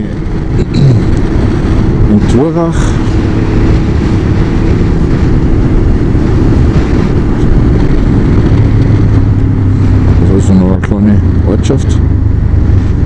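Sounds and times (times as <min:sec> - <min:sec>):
motorcycle engine humming: 0:00.0 - 0:13.0
wind rush: 0:00.0 - 0:13.0.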